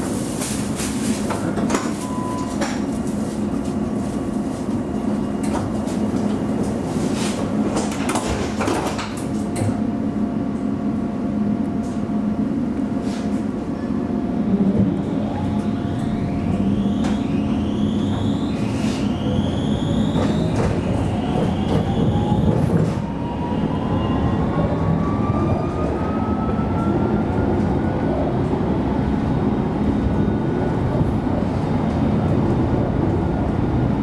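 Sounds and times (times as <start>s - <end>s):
tram humming: 0.0s - 34.0s
tram motors whining: 0.0s - 34.0s.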